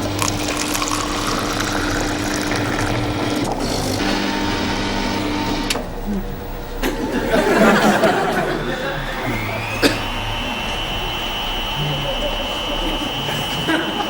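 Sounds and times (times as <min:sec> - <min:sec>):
washing machines humming: 0:00.0 - 0:14.0.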